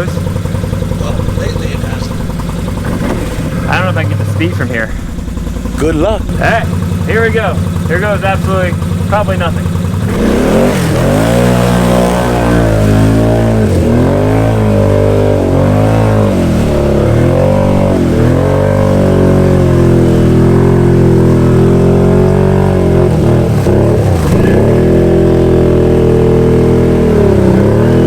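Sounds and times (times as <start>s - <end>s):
quad bike engine revving: 0.0s - 28.0s.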